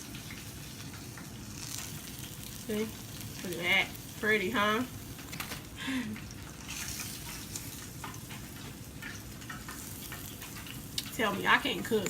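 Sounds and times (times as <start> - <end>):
oil sizzling in frying pan: 0.0 - 12.0.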